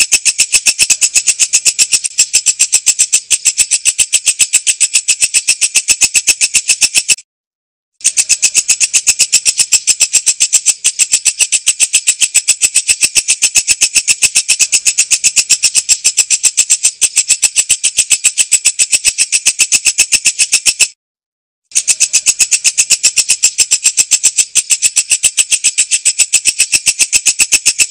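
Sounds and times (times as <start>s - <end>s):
katydid pulsed chirping: 0.0s - 7.2s, 8.0s - 21.0s, 21.7s - 27.9s.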